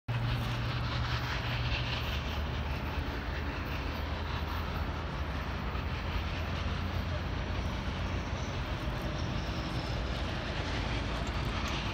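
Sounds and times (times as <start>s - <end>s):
steam locomotive rumble and hiss: 0.1s - 11.9s.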